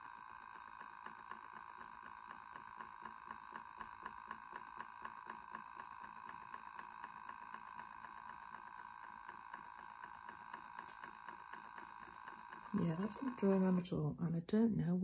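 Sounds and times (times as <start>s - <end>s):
faint motor hum: 0.0s - 15.0s.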